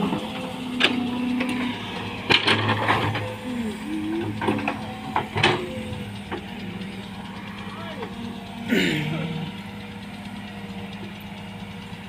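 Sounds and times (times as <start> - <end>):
heavy diesel machinery running: 0.0 - 12.0.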